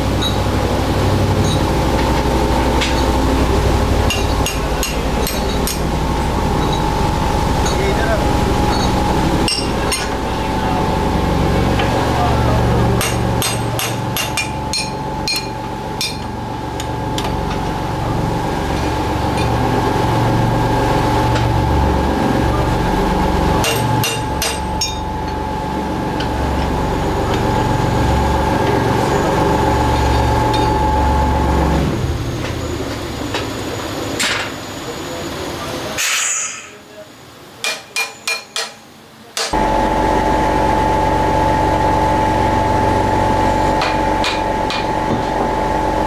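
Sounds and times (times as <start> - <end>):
factory machinery humming: 0.0 - 37.5, 39.0 - 46.0.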